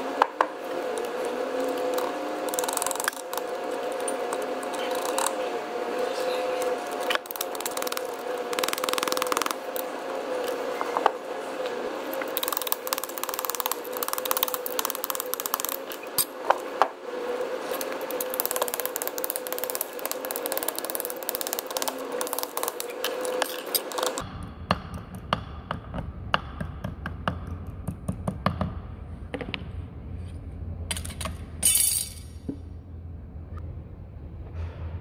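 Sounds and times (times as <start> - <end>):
steady hum and hiss: 0.0 - 35.0.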